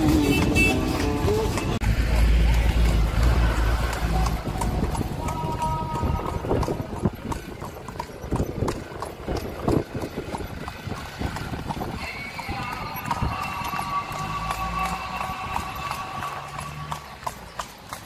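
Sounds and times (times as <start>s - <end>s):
horse hooves clip-clopping on pavement: 0.0s - 18.0s.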